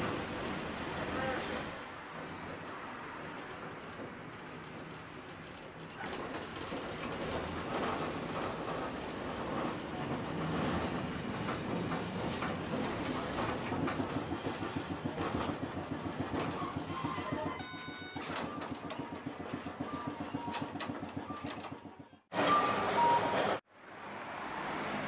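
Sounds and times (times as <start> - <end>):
streetcar wheels clacking on rails: 0.0 - 23.6.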